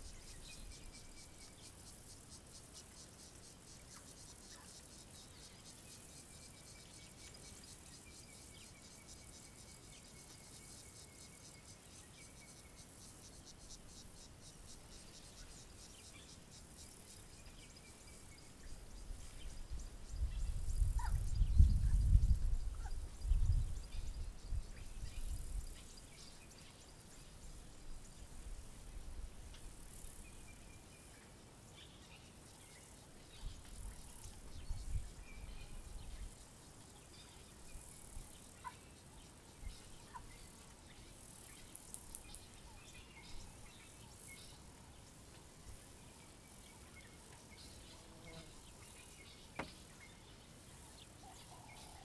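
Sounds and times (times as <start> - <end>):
high insect buzz: 0.0 - 52.0.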